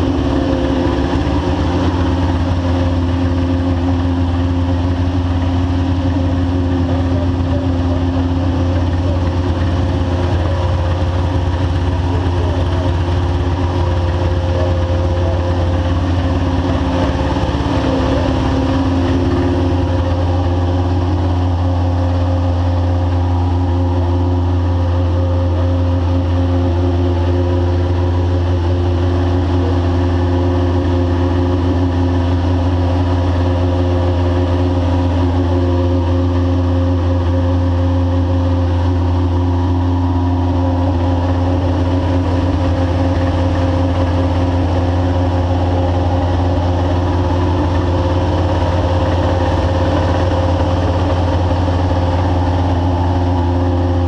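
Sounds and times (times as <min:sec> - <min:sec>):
race car engine idling: 0:00.0 - 0:54.0.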